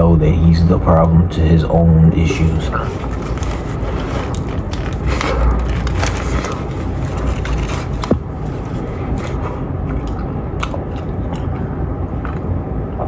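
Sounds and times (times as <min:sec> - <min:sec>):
low rumble: 0:00.0 - 0:13.0
person chewing food: 0:02.2 - 0:13.0.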